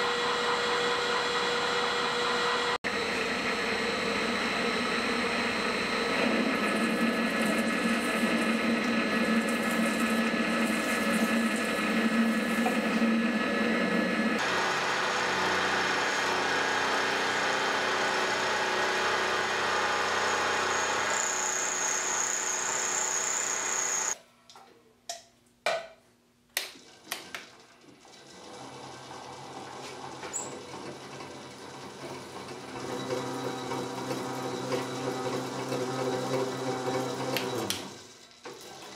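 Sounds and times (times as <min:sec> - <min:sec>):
metal lathe running: 0:00.0 - 0:24.2, 0:28.2 - 0:38.0
milling machine running: 0:00.0 - 0:24.2, 0:30.7 - 0:38.1.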